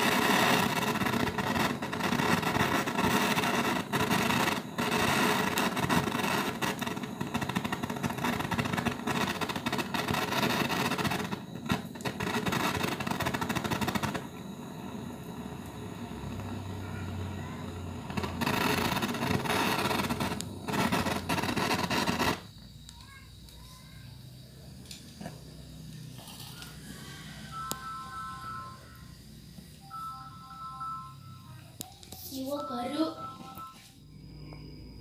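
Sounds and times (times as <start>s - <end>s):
gas torch blowing: 0.0s - 29.9s.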